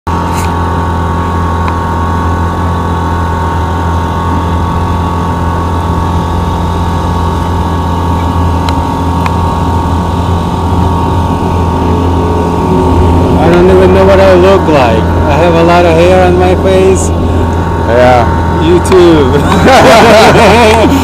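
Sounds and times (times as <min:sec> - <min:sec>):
boat engine droning: 0:00.1 - 0:21.0.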